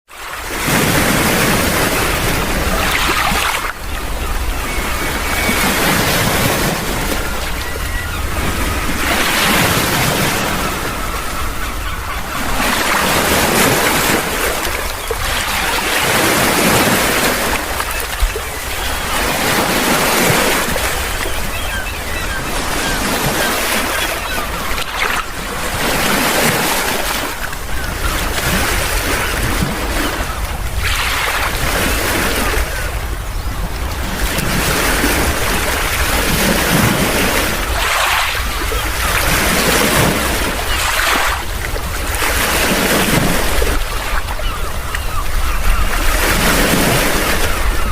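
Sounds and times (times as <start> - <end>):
sea waves washing on shore: 0.1 - 47.9.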